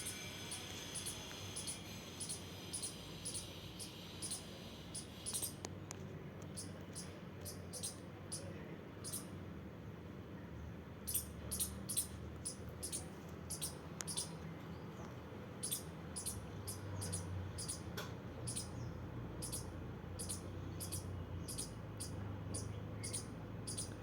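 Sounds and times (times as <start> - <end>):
squirrel chirping: 0.0 - 5.7, 6.5 - 9.4, 11.0 - 14.4, 15.5 - 24.0.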